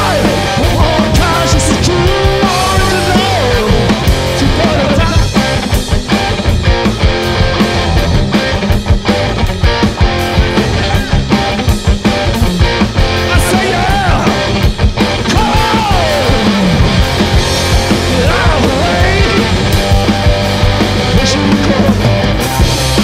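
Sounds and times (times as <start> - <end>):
drum kit: 0.0 - 23.0
electric guitar: 0.0 - 23.0.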